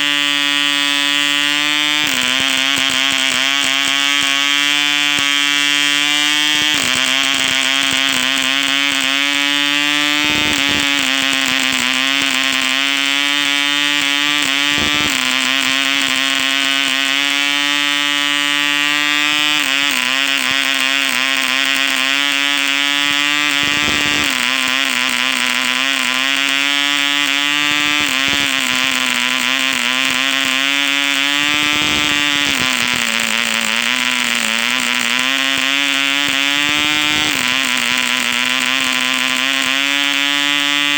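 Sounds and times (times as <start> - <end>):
model engine high-pitched buzz: 0.0 - 40.9.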